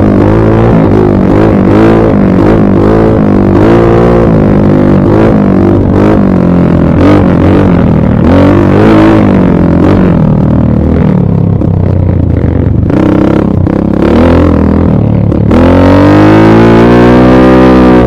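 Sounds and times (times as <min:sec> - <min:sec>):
dirt bike engine revving: 0:00.0 - 0:11.3, 0:12.4 - 0:18.0.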